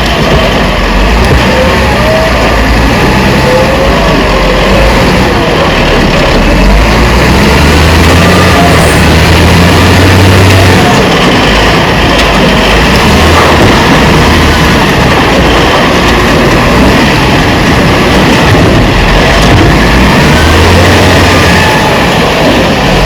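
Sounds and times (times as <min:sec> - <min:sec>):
diesel engine of heavy machinery: 0:00.0 - 0:23.0.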